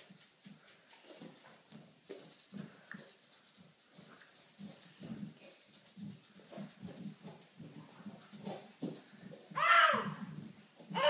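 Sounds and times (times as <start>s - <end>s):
toy rattle shaken rapidly: 0.0s - 7.4s, 8.0s - 10.9s.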